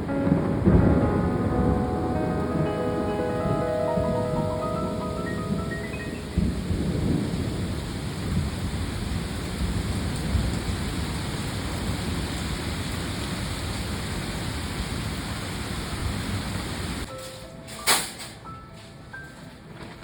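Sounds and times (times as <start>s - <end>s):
heavy rain pouring: 0.0s - 17.1s
thunder rumbling: 0.0s - 17.1s.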